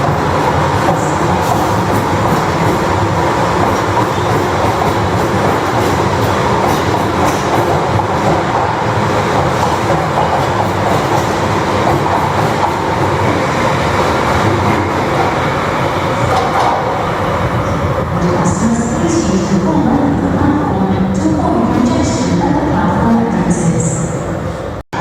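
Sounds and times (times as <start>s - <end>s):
train wheels on rails: 0.0s - 20.2s.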